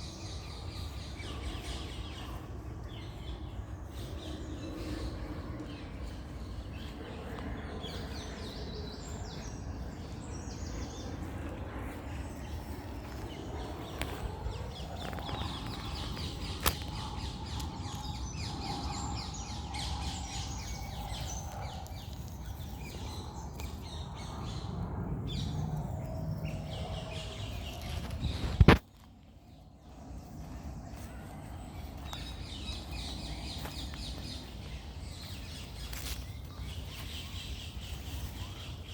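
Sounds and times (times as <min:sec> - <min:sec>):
birds chirping and calling: 0:00.0 - 0:38.9
low background rumble: 0:00.0 - 0:38.9.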